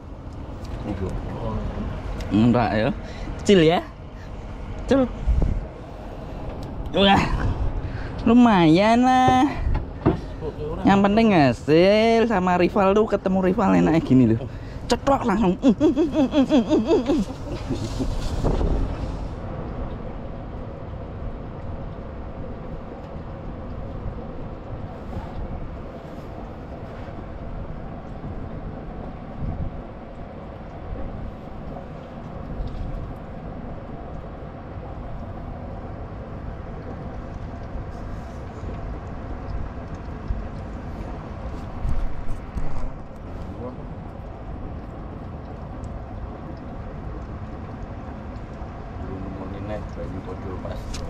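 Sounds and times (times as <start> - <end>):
low engine rumble: 0.0 - 51.0.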